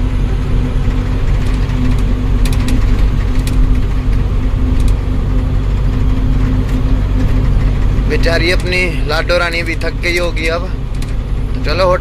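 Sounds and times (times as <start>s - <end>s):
truck diesel engine drone: 0.0s - 12.0s.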